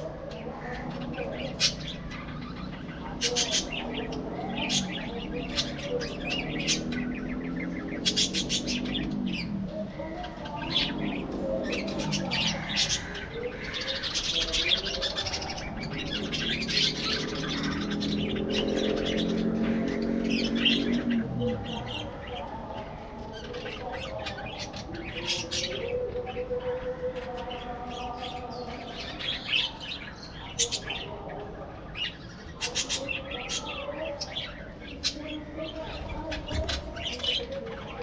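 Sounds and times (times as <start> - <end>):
budgerigars chirping and chattering: 0.0 - 38.0.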